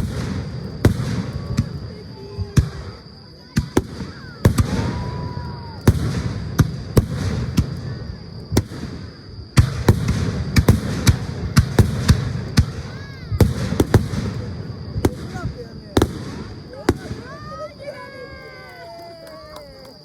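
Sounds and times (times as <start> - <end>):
fireworks crackling: 0.0 - 20.0
whistling fireworks: 0.0 - 20.0.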